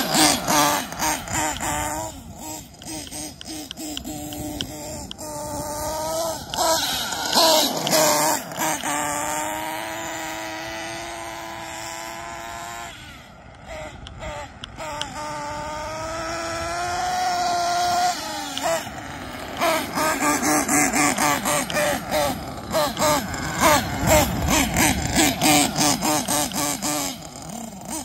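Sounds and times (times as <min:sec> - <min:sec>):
engine throttle blips: 0:00.0 - 0:28.0
model car nitro engine revving: 0:00.0 - 0:28.0.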